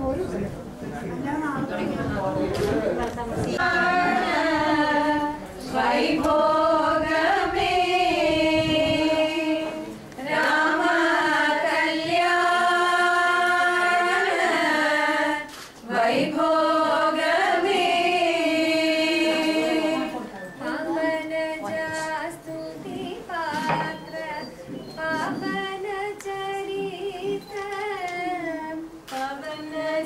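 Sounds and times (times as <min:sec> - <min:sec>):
women singing together: 0:03.4 - 0:30.0.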